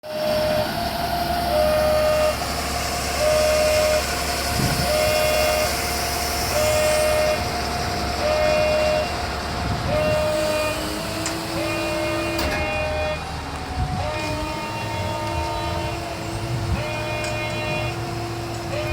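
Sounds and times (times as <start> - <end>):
two-tone warning signal: 0.1 - 7.6, 8.2 - 18.9
constant low rumble: 0.2 - 18.9.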